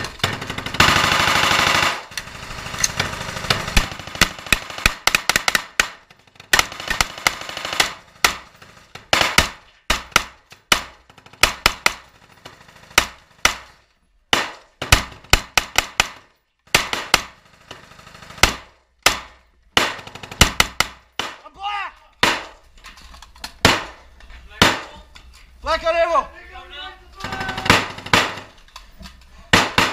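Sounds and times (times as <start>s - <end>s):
gunfire bursts and single shots: 0.0s - 21.4s, 22.2s - 22.6s, 23.6s - 25.0s, 27.2s - 28.6s, 29.5s - 29.9s.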